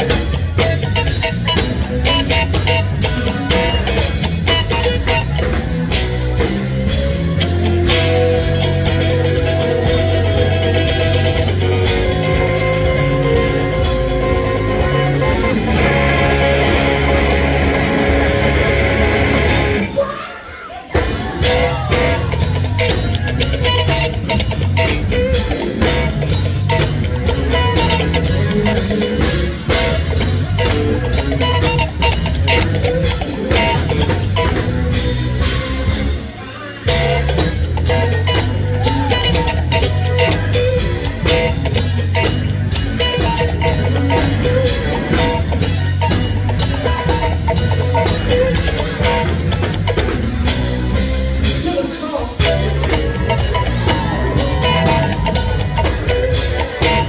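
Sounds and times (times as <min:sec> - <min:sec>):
funk band playing: 0:00.0 - 0:57.0.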